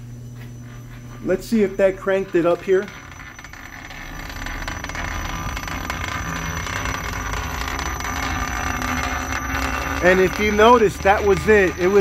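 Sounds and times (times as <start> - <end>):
fan motor and blower whirring: 0.0 - 12.0.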